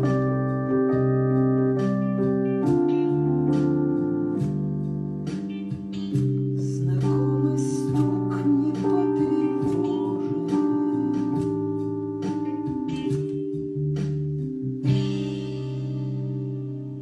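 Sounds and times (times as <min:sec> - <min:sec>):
held chords: 0:00.0 - 0:17.0
plucked guitar notes: 0:00.0 - 0:17.0.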